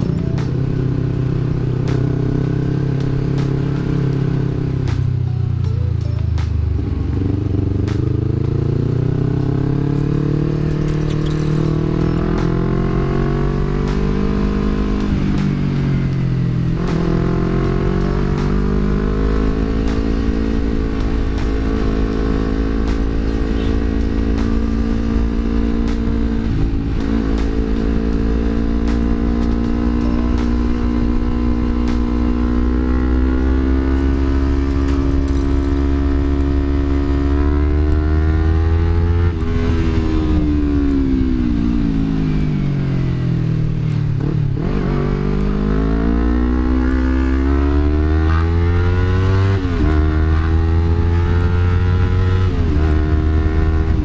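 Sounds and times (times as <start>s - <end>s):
motorcycle engine revving: 0.0s - 54.0s
road rumble: 0.0s - 54.0s
wind: 0.0s - 54.0s.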